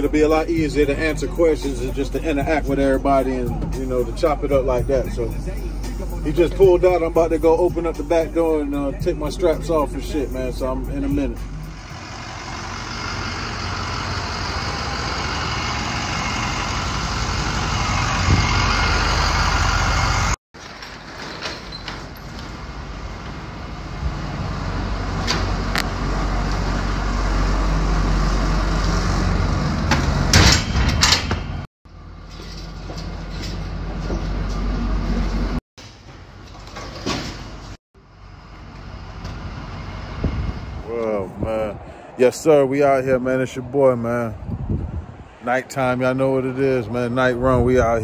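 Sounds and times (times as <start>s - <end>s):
heavy truck engine rumble: 0.0s - 48.0s.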